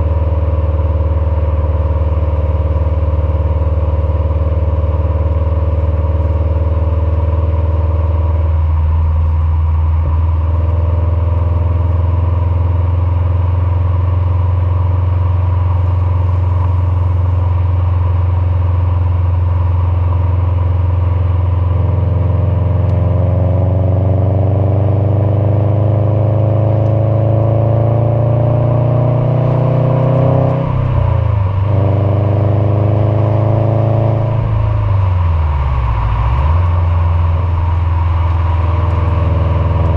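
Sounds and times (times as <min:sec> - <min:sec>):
car engine revving while driving: 0:04.2 - 0:19.2, 0:19.8 - 0:39.9.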